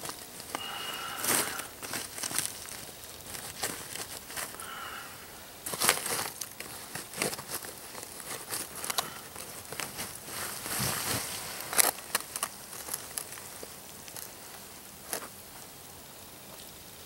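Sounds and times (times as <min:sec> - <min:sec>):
wrapping crinkling: 0:00.0 - 0:15.6
charcoal crunching and scraping: 0:00.0 - 0:15.8.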